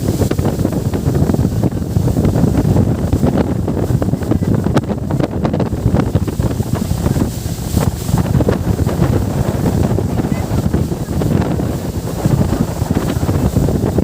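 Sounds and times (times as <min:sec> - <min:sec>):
water rushing under boat: 0:00.0 - 0:14.0
wind buffeting microphone: 0:00.0 - 0:14.0.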